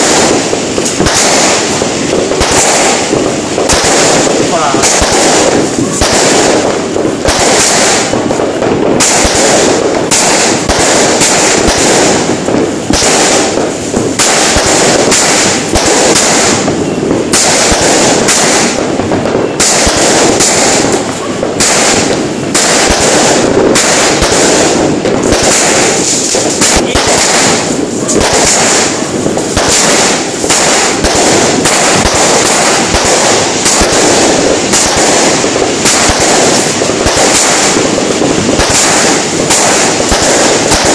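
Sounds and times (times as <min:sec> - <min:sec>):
fireworks crackling bangs: 0:00.0 - 0:40.9.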